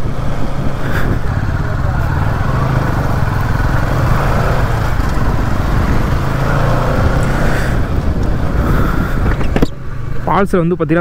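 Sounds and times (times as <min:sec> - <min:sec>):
wind over microphone: 0:00.0 - 0:10.5
motorcycle engine running: 0:00.0 - 0:11.0.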